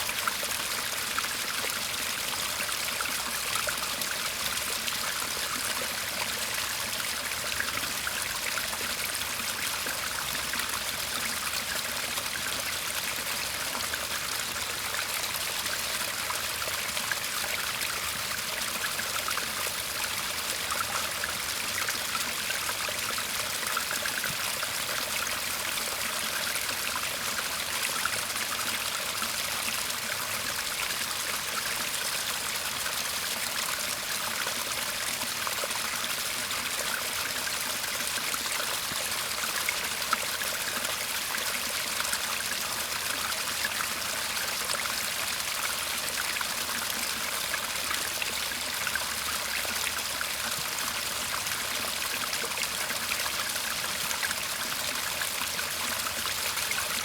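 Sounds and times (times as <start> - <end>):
stream murmuring and trickling: 0.0 - 57.0.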